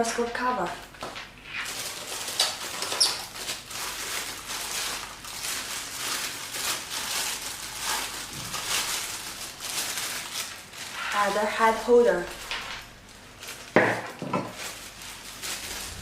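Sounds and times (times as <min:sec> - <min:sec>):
plastic packaging crinkling: 0:00.4 - 0:16.0.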